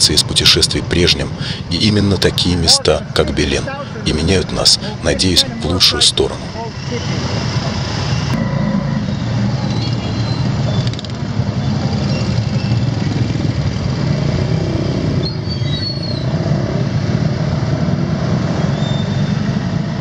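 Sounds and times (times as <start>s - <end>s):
motorcycle engines in traffic: 0.0s - 20.0s.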